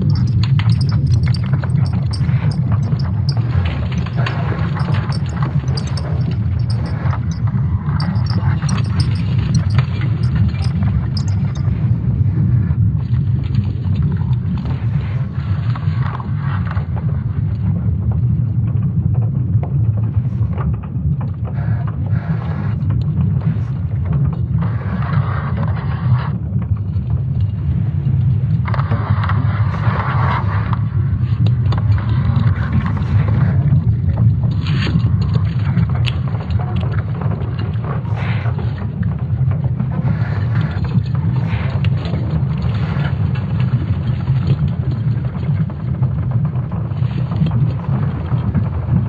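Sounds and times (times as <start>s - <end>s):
deep rumble: 0.0s - 49.0s.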